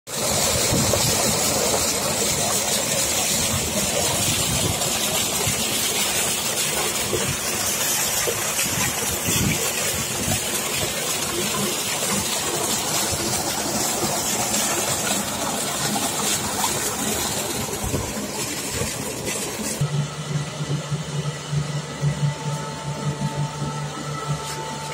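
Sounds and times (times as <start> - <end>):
water gushing into a tank: 0.1 - 22.1.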